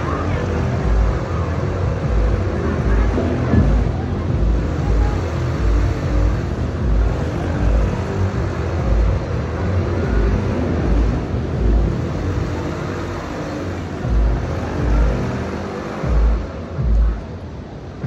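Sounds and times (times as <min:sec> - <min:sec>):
music: 0:00.0 - 0:18.0
ride rumbling with deep thumps: 0:00.0 - 0:18.0.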